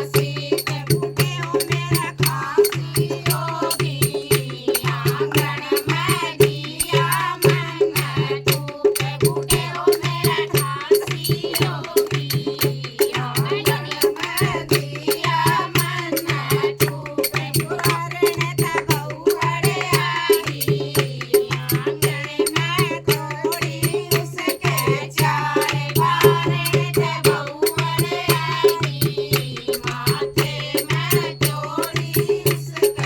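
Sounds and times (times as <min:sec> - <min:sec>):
rattling clicking percussion: 0:00.0 - 0:33.0.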